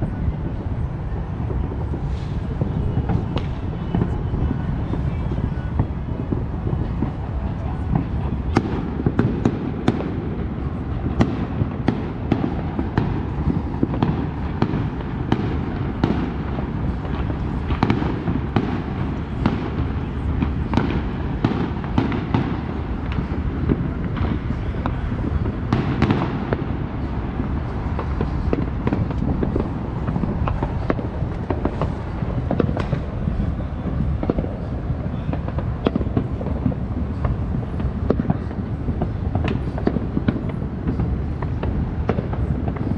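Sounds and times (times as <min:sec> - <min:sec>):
fireworks bangs and pops: 0:00.0 - 0:42.9.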